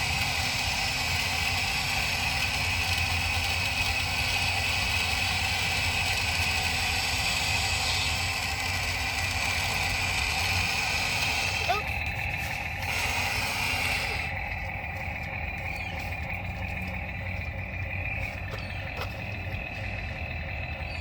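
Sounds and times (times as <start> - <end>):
high whine: 0.0 - 21.0
toy excavator whirring hum: 0.0 - 21.0.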